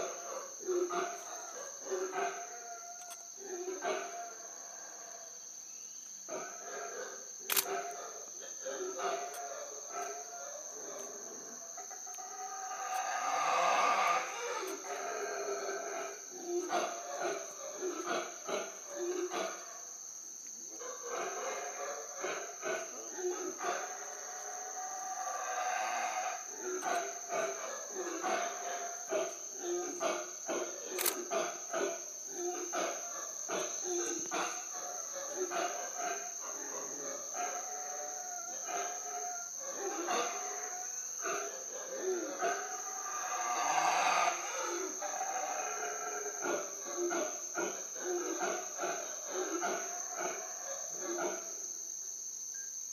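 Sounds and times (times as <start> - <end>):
high insect drone: 0.0 - 52.9
howler monkeys roaring: 6.3 - 19.9, 20.7 - 51.6.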